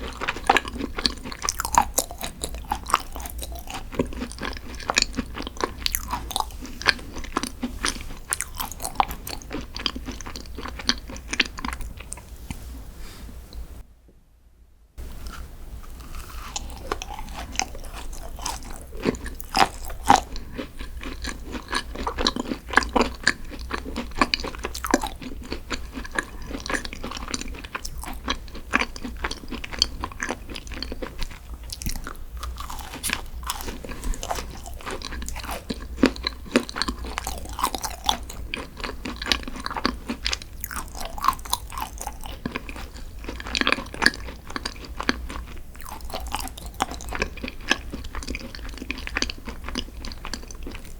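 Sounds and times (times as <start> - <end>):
crunchy bites: 0.0 - 12.2, 15.0 - 50.9
chewing crisp crackles: 0.0 - 12.6, 15.0 - 50.9.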